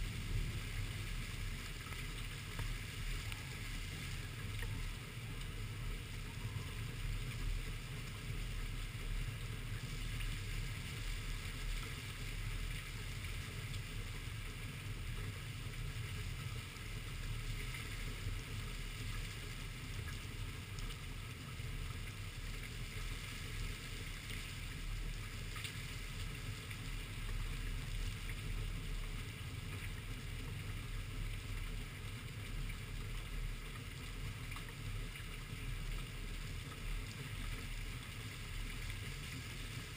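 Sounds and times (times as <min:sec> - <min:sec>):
steady rain falling: 0:00.0 - 0:39.9
wind rumble on microphone: 0:00.0 - 0:39.9.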